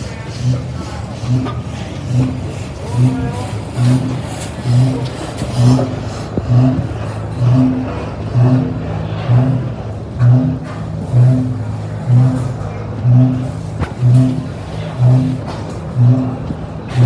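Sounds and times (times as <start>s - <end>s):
old engine running slowly: 0.0s - 17.0s.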